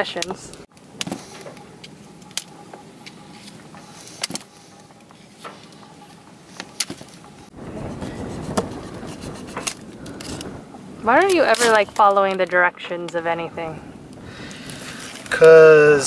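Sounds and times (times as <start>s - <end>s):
steady rushing noise: 0.5s - 16.0s.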